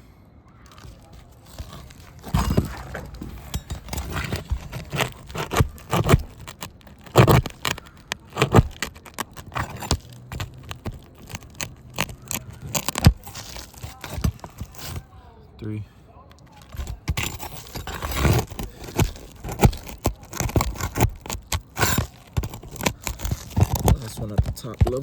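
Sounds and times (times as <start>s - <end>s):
metal tool scraping under shingles: 0.6s - 15.1s, 16.4s - 25.0s.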